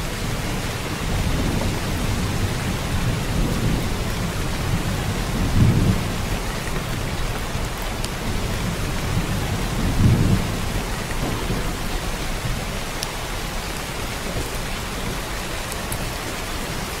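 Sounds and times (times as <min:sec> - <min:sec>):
steady rain hiss: 0:00.0 - 0:17.0
low rumbles of thunder: 0:00.1 - 0:15.5.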